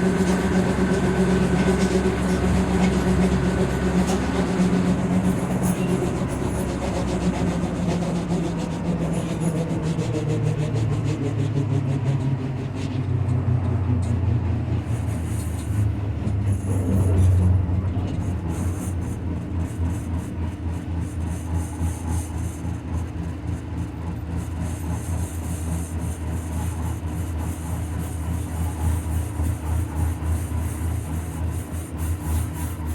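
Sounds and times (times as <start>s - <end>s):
rhythmic wheel knocking: 0.0s - 32.9s
tram humming: 0.0s - 32.9s.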